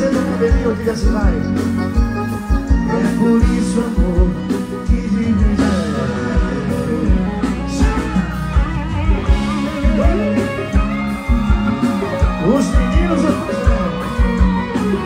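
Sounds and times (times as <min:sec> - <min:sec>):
electric guitar lead with bends: 0:00.0 - 0:15.0
live band music: 0:00.0 - 0:15.0.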